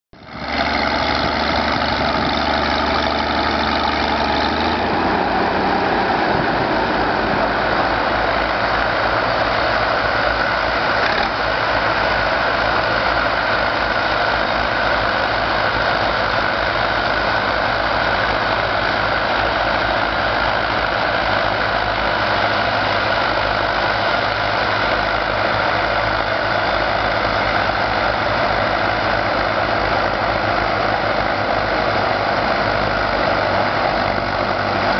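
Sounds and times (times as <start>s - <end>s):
tractor diesel engines under load: 0.2s - 34.9s.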